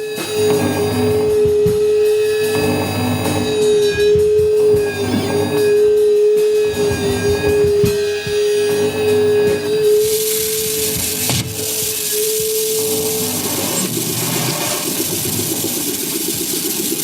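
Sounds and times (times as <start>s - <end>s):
loud steady drone tone: 0.0s - 17.0s
percussive clattering and hits: 0.1s - 17.0s.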